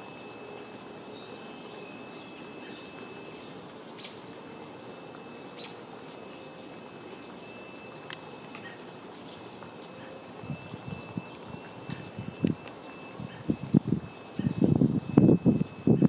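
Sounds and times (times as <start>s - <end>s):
thin high tone: 0.0s - 16.0s.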